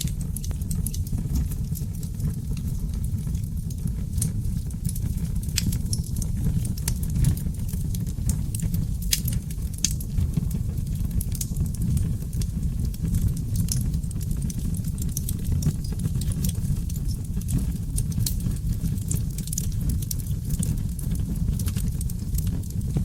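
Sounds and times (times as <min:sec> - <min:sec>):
fire crackling and popping: 0:00.0 - 0:23.0
wood fire roaring: 0:00.0 - 0:23.0.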